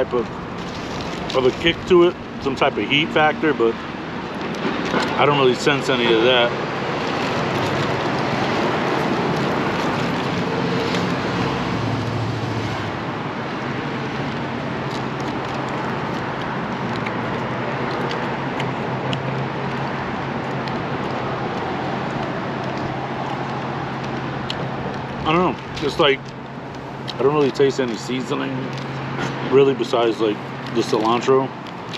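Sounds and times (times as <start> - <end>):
motor vehicle rumble and hiss: 0.0 - 31.9.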